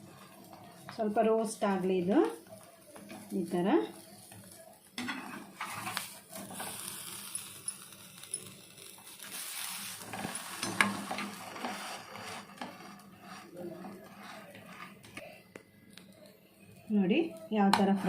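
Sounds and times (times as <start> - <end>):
butter sizzling in a frying pan: 0.0 - 15.0.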